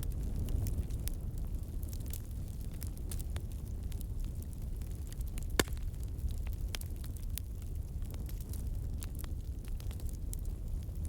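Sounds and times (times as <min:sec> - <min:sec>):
fire crackles and pops: 0:00.0 - 0:11.0
fire low rumble: 0:00.0 - 0:11.0.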